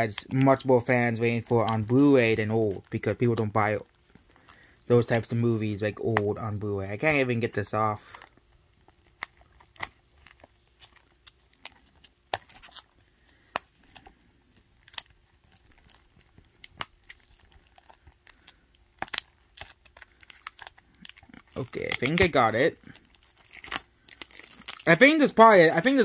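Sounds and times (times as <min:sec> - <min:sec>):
plastic shrink-wrap crinkling: 0:00.0 - 0:26.0.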